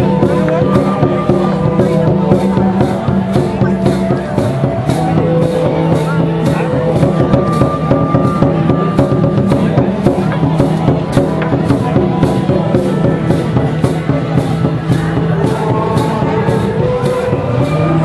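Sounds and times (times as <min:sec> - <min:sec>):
drums and cymbals beating: 0:00.0 - 0:18.0.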